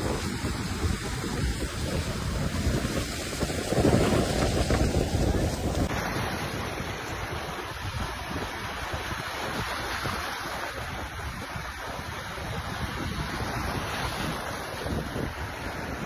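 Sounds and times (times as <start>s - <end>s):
waves washing against rocks: 0.0s - 16.0s
wind buffeting microphone: 0.0s - 16.0s.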